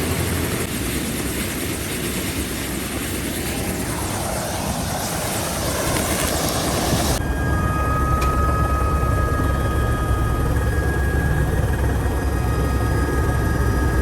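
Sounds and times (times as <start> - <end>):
helicopter rotor blades beating: 0.0 - 14.0.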